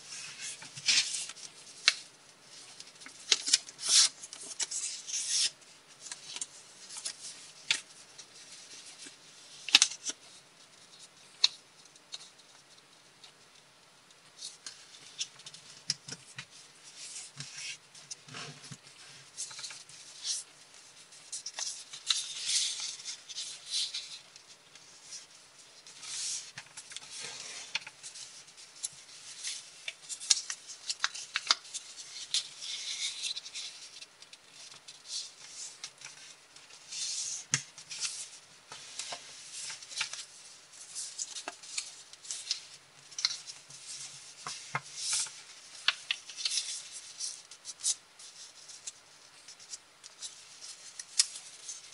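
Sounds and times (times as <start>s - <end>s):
paper rustling and crinkling: 0.0s - 13.4s, 14.4s - 51.9s.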